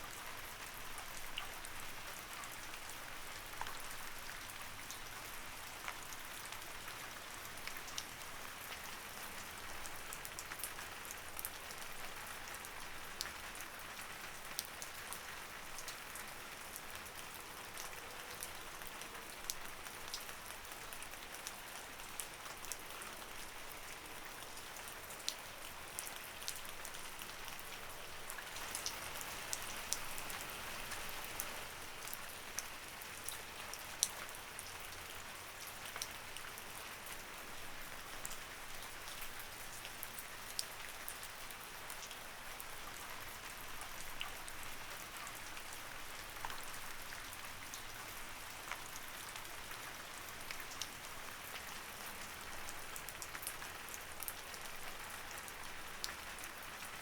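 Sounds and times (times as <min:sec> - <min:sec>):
light rain falling: 0:00.0 - 0:57.0
raindrops ticking on surfaces: 0:00.1 - 0:57.0.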